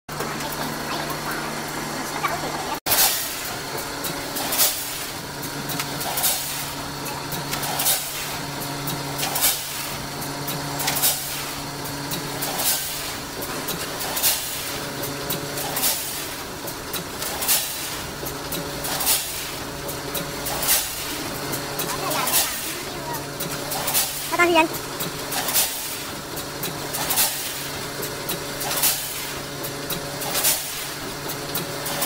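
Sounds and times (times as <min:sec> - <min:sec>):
bagging machine hum: 0:00.1 - 0:32.0
machine clacking: 0:00.1 - 0:32.0.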